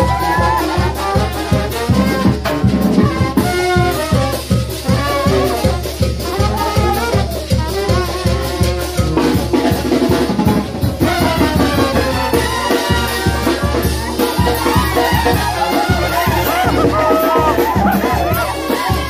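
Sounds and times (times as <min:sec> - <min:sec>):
bass drum beat: 0:00.0 - 0:19.0
brass band playing dance tune: 0:00.0 - 0:19.0.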